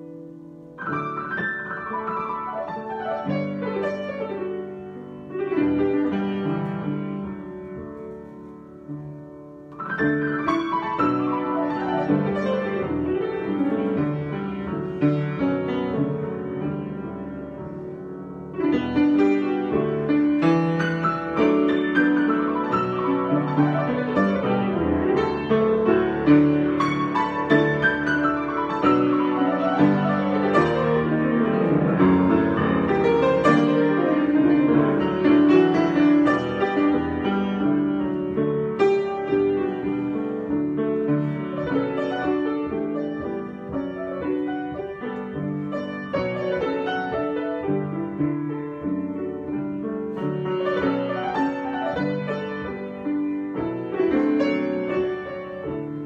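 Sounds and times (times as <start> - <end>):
grand piano improvisation: 0.0 - 56.0.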